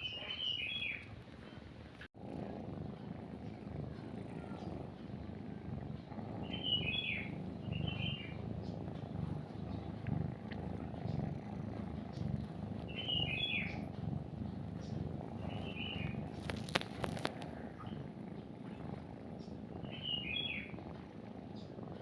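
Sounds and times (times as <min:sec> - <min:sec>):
small bird chirping: 0:00.0 - 0:01.6, 0:03.3 - 0:22.0
cat purring: 0:00.0 - 0:22.0.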